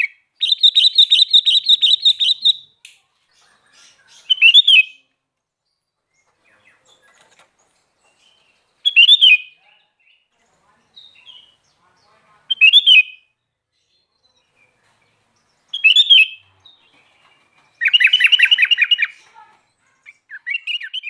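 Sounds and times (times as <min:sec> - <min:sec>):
bird singing warbled phrases: 0:00.0 - 0:21.0.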